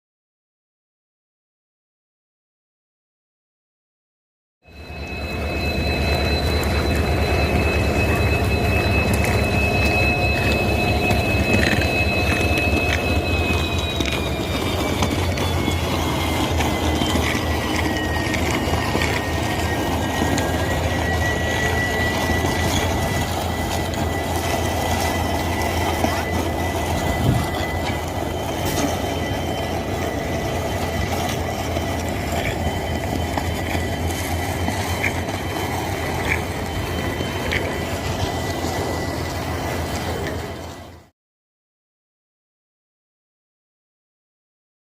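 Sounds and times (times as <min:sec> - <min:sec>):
high-pitched engine whine: 0:04.6 - 0:41.1
diesel locomotive engine rumbling: 0:04.7 - 0:41.1.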